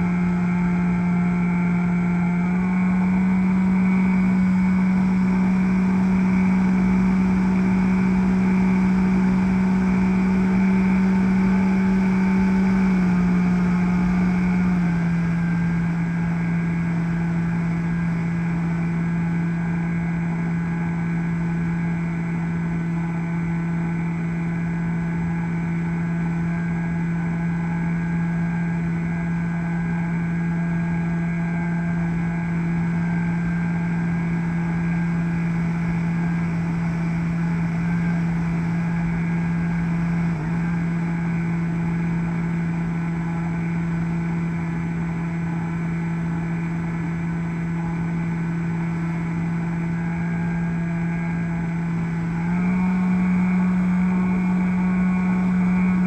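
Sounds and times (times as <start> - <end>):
electric motor and propeller: 0.0 - 56.0.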